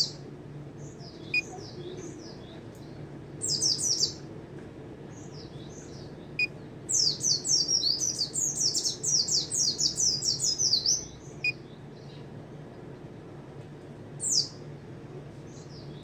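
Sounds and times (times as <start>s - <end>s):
caged bird singing: 0.0s - 4.3s, 5.0s - 12.7s, 14.2s - 14.6s, 15.5s - 16.0s.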